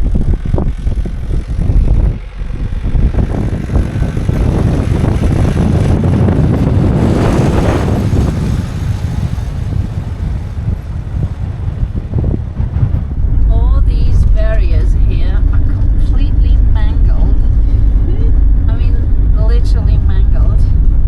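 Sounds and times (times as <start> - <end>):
car engine and road rumble: 0.0 - 21.0
wind on microphone: 0.0 - 21.0.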